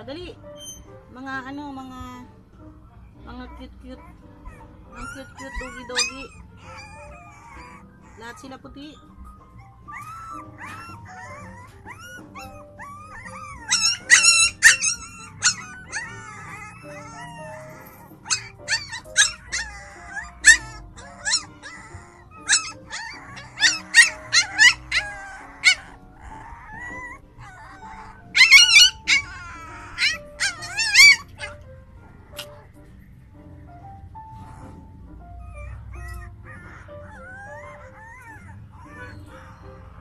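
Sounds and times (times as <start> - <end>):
background music with sustained notes: 0.0 - 40.0
puppies yelping and whining: 0.4 - 1.1, 3.0 - 40.0.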